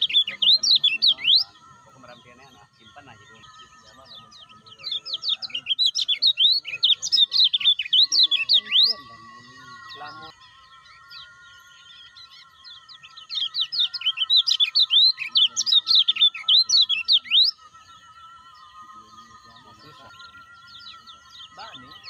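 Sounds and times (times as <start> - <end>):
bird singing high chirps: 0.0 - 22.0.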